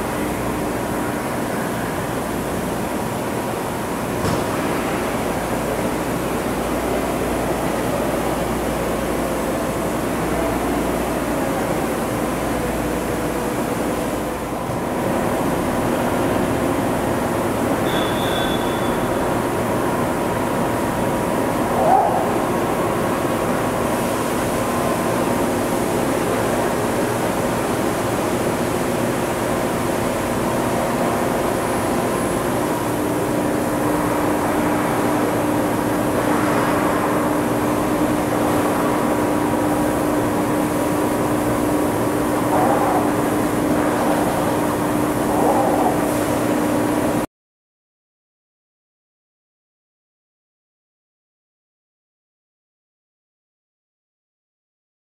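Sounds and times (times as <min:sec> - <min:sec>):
steady hum: 0:00.0 - 0:47.3.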